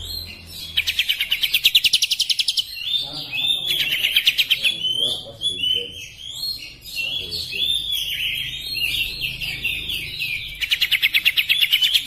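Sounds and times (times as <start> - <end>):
bird warbling song: 0.0 - 12.0.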